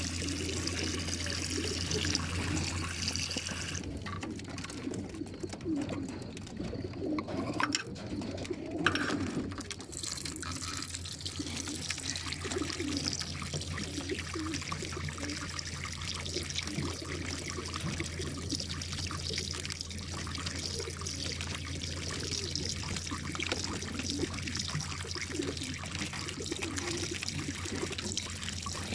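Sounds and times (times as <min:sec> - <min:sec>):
pigeons cooing: 0:00.0 - 0:09.9, 0:10.5 - 0:28.9
water running along trough: 0:00.0 - 0:28.9.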